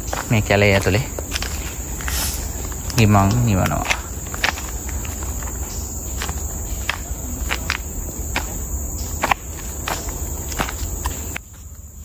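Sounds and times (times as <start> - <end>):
footsteps on dry leaves: 0.0 - 12.0
forest insects droning: 0.0 - 12.0.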